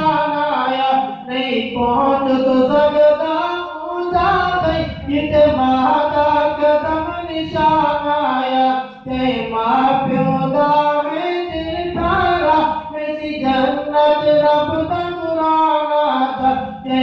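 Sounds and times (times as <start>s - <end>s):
man chanting a sung poem: 0.0s - 17.0s.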